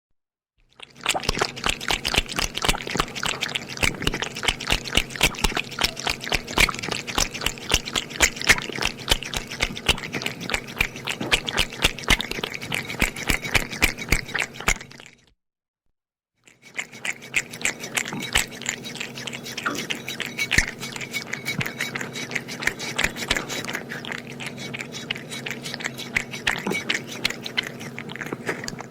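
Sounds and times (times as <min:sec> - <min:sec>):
cat lapping milk: 0:00.7 - 0:15.1, 0:16.5 - 0:28.9.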